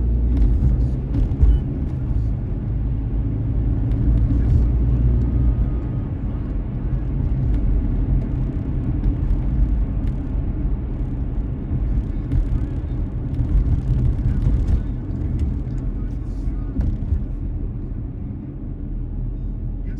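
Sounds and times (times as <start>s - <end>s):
car engine and tyre rumble: 0.0s - 19.9s.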